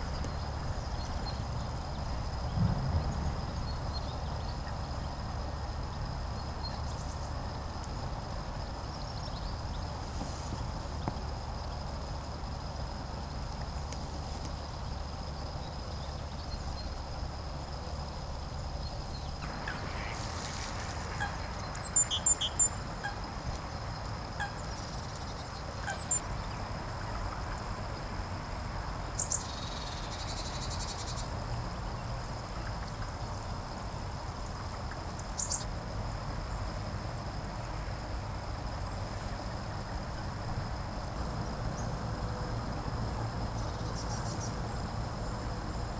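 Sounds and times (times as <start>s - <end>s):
low outdoor rumble: 0.0s - 45.9s.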